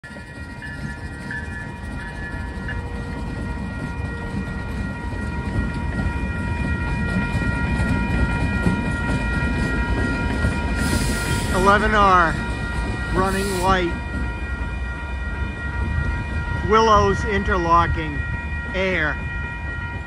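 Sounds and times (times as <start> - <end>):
diesel locomotive engine rumble: 0.0 - 20.0
steady high tones: 0.1 - 19.9.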